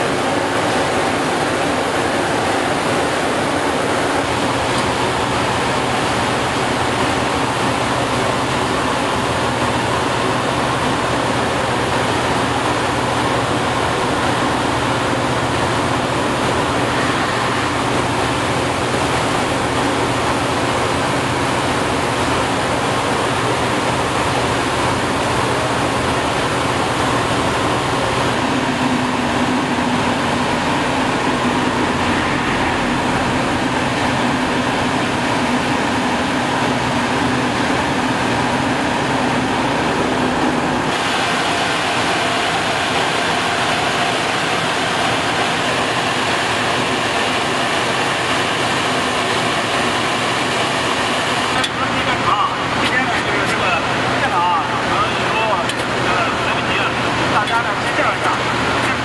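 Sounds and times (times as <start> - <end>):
diesel engine under load: 0.0 - 59.0
rotor milling road surface: 0.0 - 59.0.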